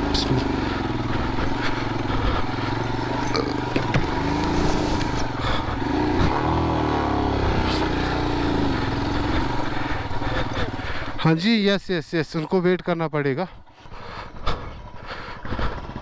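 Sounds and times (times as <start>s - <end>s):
motorcycle engine revving: 0.0s - 11.4s, 13.9s - 16.0s.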